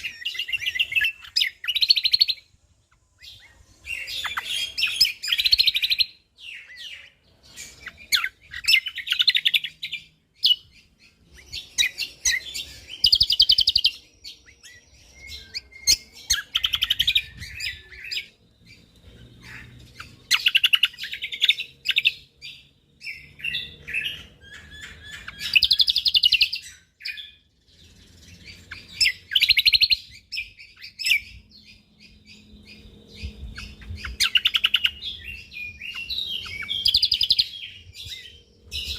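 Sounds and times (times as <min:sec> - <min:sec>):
quiet bird chirps: 0:00.0 - 0:38.9
songbird chattering song: 0:00.0 - 0:38.9.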